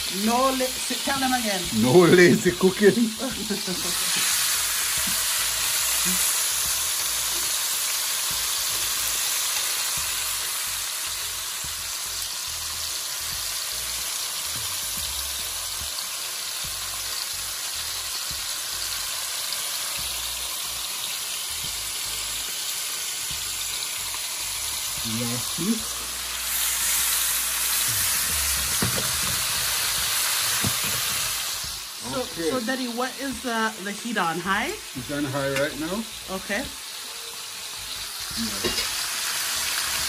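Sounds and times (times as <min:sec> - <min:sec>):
ribs sizzling in a pot: 0:00.0 - 0:40.0.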